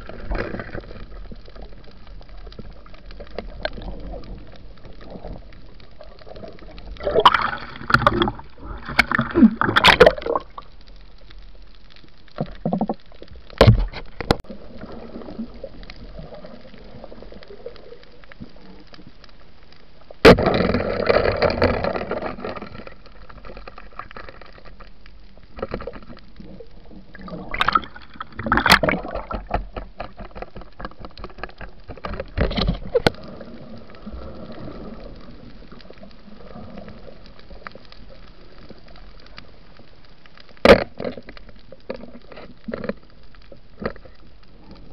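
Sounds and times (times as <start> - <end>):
underwater low hiss: 0.0 - 30.0, 31.7 - 44.9
water gurgling and bubbles: 0.0 - 44.9.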